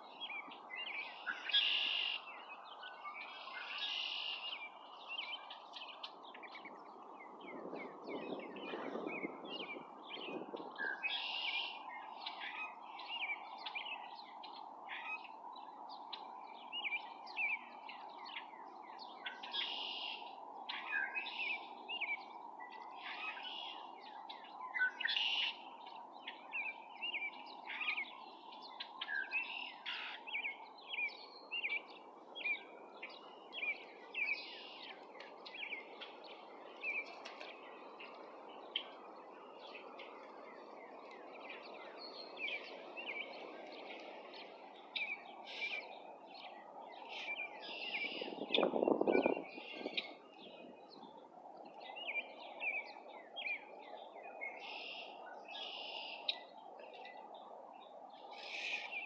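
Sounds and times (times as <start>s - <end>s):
outdoor background hiss: 0.0s - 7.2s, 11.0s - 59.0s
small birds chirping: 7.8s - 59.0s.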